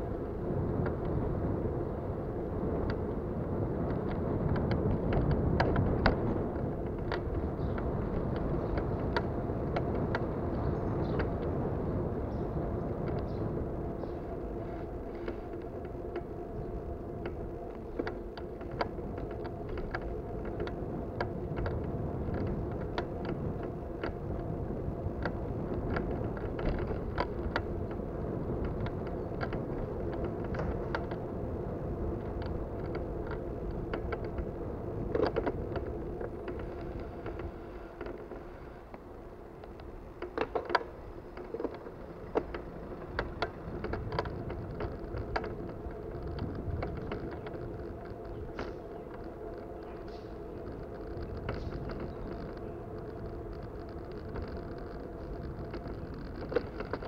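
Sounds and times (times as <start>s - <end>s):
road rumble and hum: 0.0s - 57.0s
bicycle rattling and knocking: 2.6s - 11.6s, 12.2s - 57.0s.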